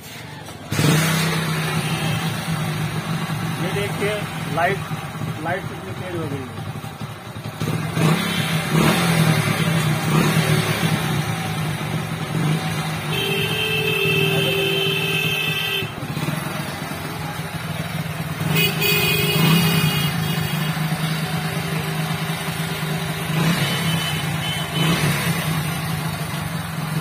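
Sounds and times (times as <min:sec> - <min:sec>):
motorcycle engine idling: 0:01.4 - 0:27.0.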